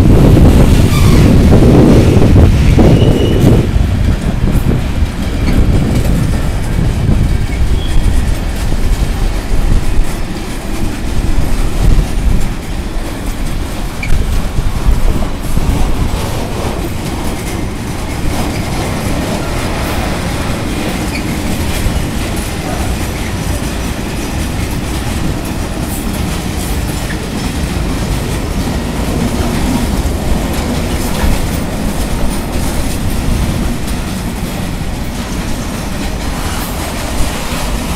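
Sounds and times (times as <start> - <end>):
train rumble: 0.0 - 37.9
train wheels clicking on rails: 0.0 - 37.9.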